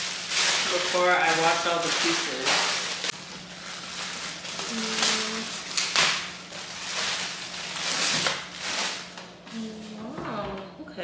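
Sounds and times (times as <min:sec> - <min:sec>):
plastic bag rustling: 0:00.0 - 0:10.1.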